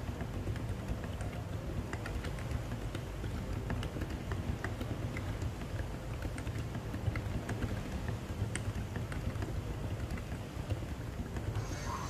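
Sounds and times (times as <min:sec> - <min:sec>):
fast typing on mechanical keyboard: 0:00.0 - 0:11.9.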